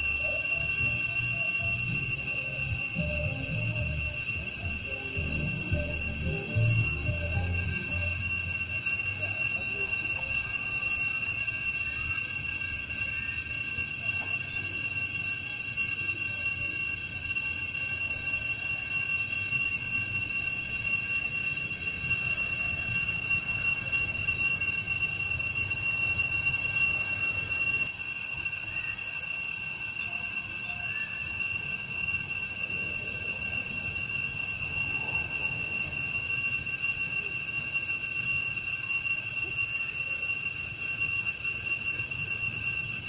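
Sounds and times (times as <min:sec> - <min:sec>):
high-pitched whine: 0:00.0 - 0:43.0.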